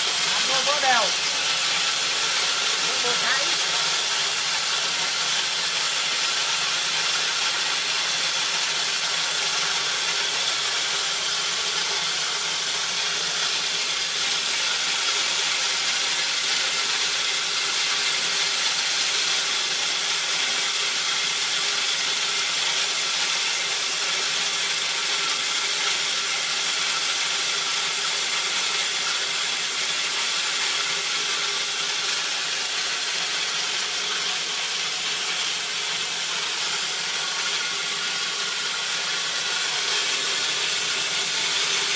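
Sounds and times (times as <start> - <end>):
stone mill grinding corn: 0.0 - 41.9.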